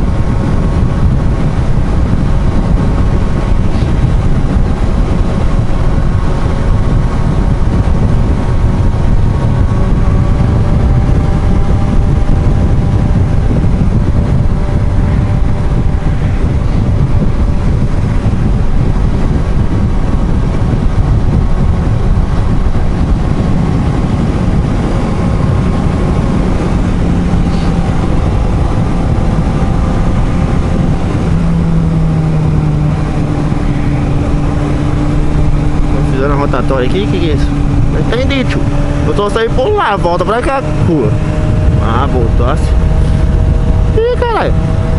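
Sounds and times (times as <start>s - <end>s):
motorcycle engine: 0.0s - 44.9s
wind rush on helmet microphone: 0.0s - 44.9s.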